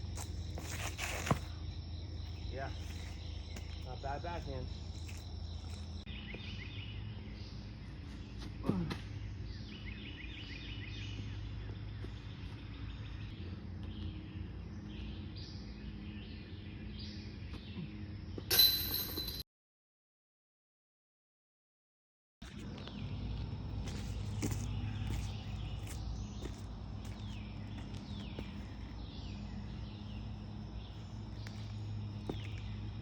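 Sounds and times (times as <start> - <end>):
insects calling: 0.0 - 18.4, 22.5 - 33.0
birds chirping: 0.0 - 18.7, 22.5 - 33.0.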